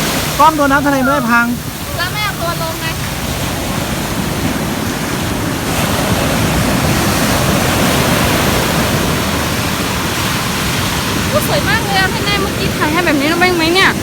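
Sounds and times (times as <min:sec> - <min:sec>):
waves breaking on shore: 0:00.0 - 0:14.0.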